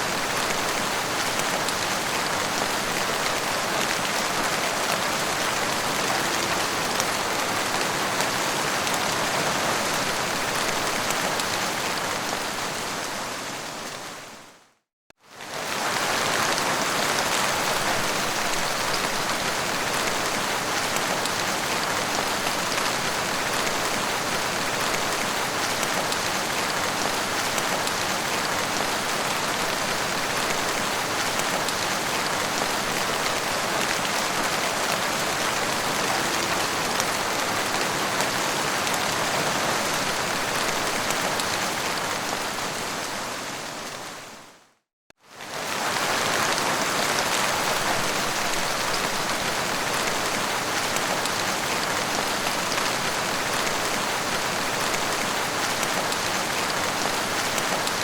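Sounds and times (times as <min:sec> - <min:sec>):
heavy rain falling: 0:00.0 - 0:14.3, 0:15.3 - 0:44.4, 0:45.3 - 0:58.0.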